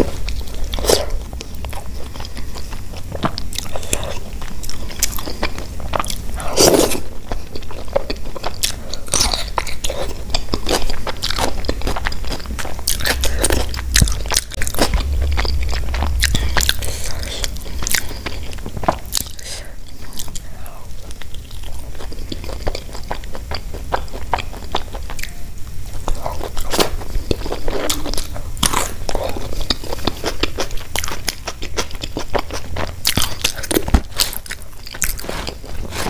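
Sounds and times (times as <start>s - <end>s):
crunchy chewing: 0.0s - 36.0s.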